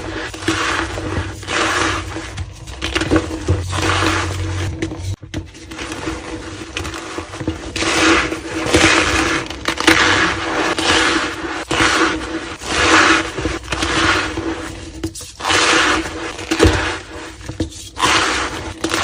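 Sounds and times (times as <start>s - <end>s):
chalk crunching and squeaking: 0.0s - 19.0s.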